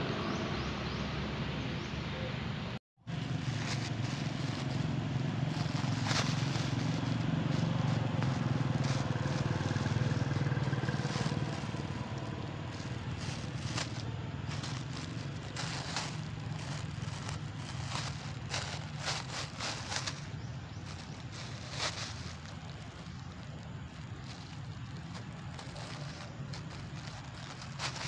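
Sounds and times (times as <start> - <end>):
plastic bag crinkling: 3.2 - 28.0.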